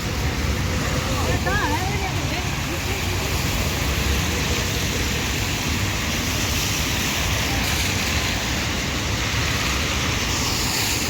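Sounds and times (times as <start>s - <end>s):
car driving on road: 0.0s - 11.0s.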